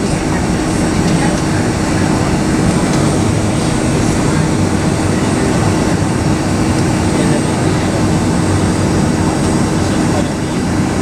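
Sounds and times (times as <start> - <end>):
air-conditioning hiss: 0.0 - 11.0
constant hum: 0.0 - 11.0
jet engines idling rumble: 0.0 - 11.0.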